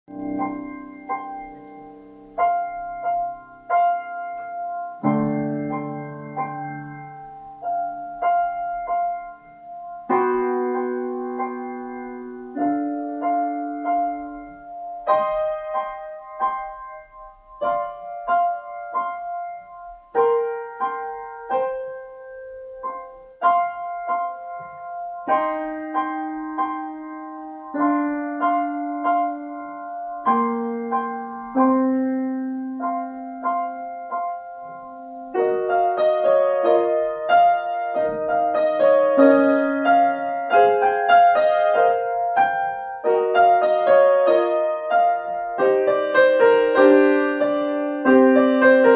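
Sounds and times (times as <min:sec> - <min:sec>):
solo piano: 0:00.0 - 0:48.9.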